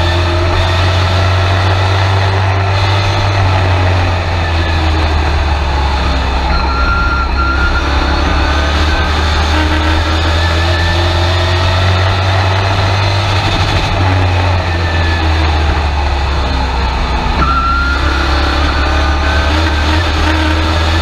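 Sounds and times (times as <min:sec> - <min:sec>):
truck engine from inside cab: 0:00.0 - 0:21.0.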